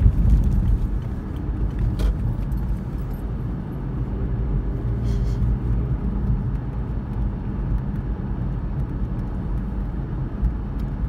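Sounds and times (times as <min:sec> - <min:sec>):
car driving low rumble: 0:00.0 - 0:11.0.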